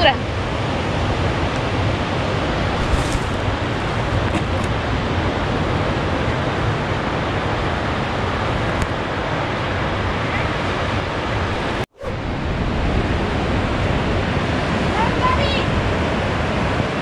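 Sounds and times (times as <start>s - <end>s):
ocean surf on rocks: 0.0s - 17.0s
wind buffeting microphone: 0.0s - 17.0s.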